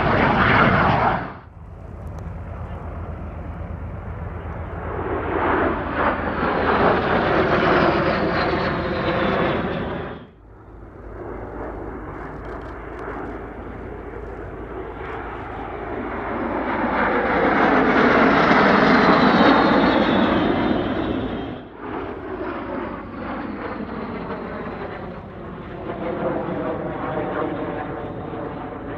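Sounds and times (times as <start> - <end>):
jet aircraft roaring past: 0.0 - 28.9.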